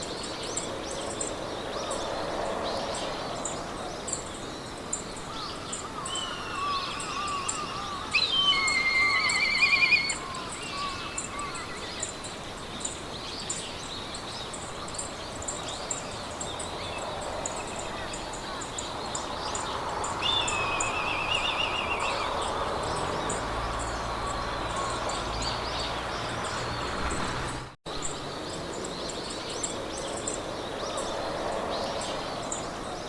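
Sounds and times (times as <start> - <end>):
birds singing: 0.0 - 33.0
wind in grass: 0.0 - 33.0.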